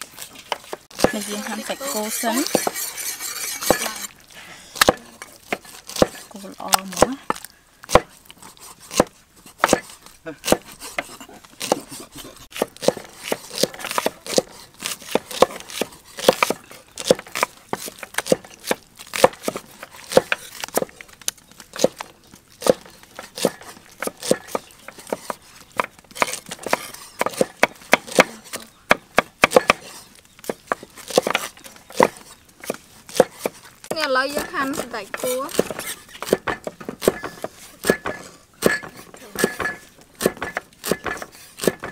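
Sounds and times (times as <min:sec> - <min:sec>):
knife chopping meat on wood: 0:00.5 - 0:04.1, 0:04.8 - 0:08.2, 0:08.9 - 0:20.9, 0:21.8 - 0:41.9.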